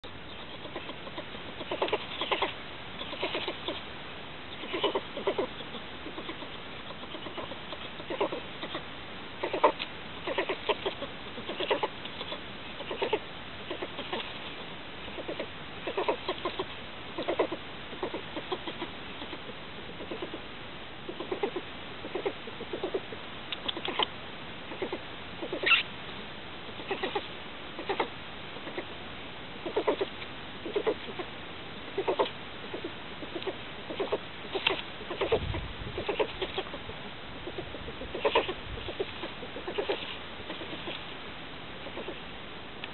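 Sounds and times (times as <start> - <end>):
animal making rapid pulses: 0.4 - 3.9, 4.5 - 14.4, 15.1 - 20.5, 21.1 - 24.1, 24.7 - 25.8, 26.7 - 28.9, 29.6 - 31.3, 32.0 - 41.1.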